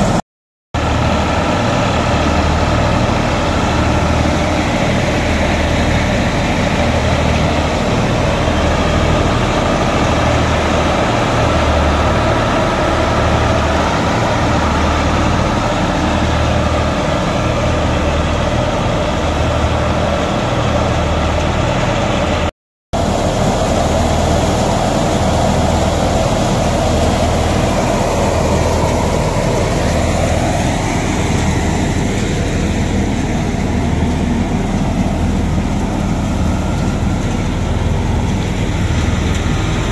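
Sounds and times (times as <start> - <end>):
tractor diesel engine running: 0.0 - 0.2, 0.8 - 39.9
thresher mechanical hum: 0.8 - 39.9.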